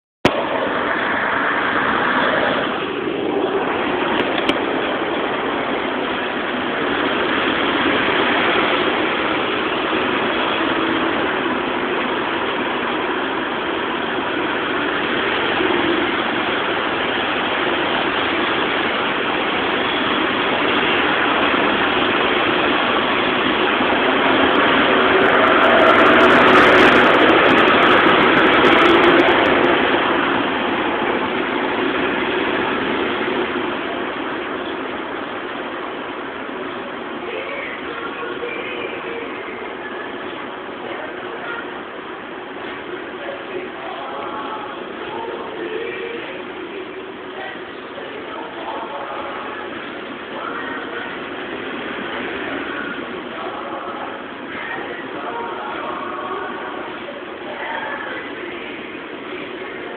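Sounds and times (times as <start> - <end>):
road traffic with engines: 0.2 - 58.4.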